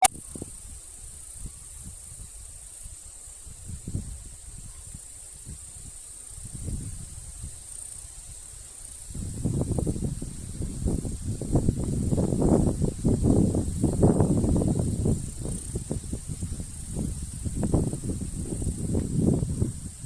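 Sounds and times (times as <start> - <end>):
high-pitched hiss: 0.0 - 20.0.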